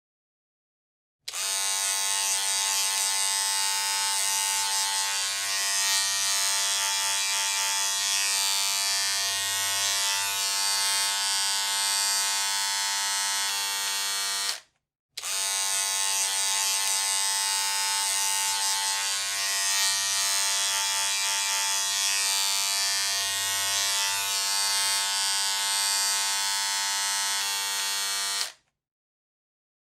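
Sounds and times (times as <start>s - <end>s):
electric hair clippers buzzing: 1.3s - 28.6s.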